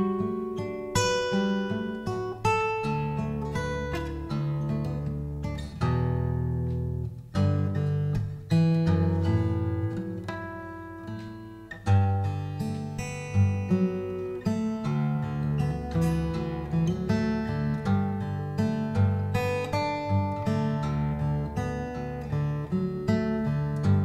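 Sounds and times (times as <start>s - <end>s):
fingerstyle acoustic guitar blues: 0.0s - 24.0s.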